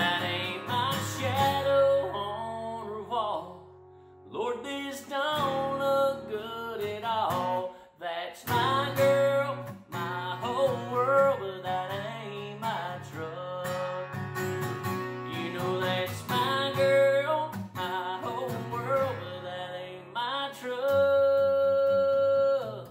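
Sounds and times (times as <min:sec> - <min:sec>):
man singing: 0:00.0 - 0:03.7, 0:04.3 - 0:14.4, 0:15.1 - 0:22.9
acoustic guitar strumming: 0:00.0 - 0:07.8, 0:08.4 - 0:22.9.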